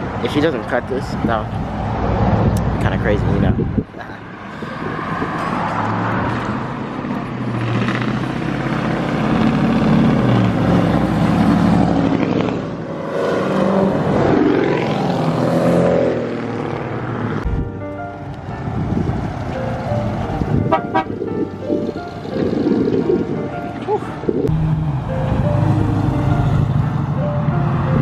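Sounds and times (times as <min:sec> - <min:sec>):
car engines revving: 0:00.0 - 0:17.5, 0:18.9 - 0:28.0.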